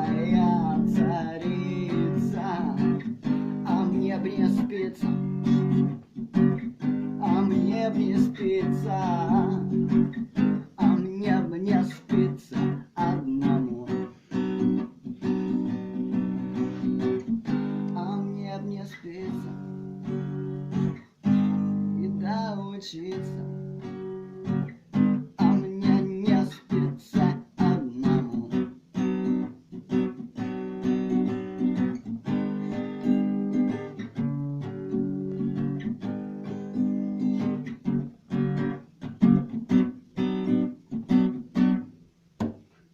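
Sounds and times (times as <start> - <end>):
acoustic guitar strumming: 0.0 - 42.7.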